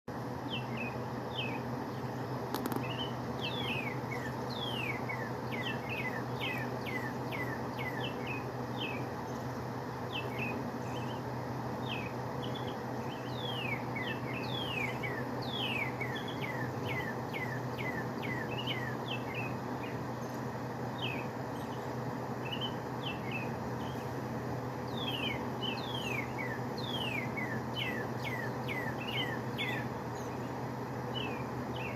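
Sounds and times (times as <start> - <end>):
birds chirping: 0.2 - 31.9.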